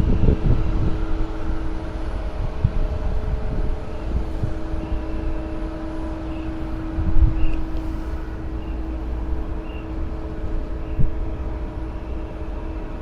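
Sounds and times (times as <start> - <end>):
steady mechanical hum: 0.0 - 13.0
wind rumbling on microphone: 0.0 - 13.0.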